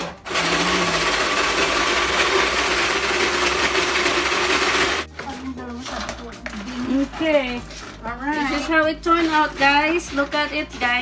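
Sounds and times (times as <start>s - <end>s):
appliance motor grinding ice: 0.0s - 5.2s, 5.8s - 11.0s.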